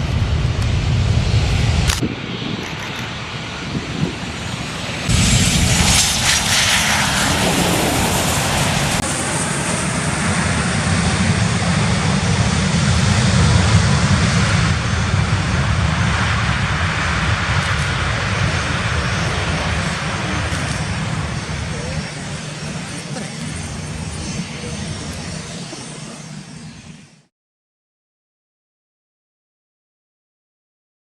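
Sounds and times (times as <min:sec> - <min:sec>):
high engine whine falling: 0:00.0 - 0:27.3
jet engines roaring: 0:00.0 - 0:27.3.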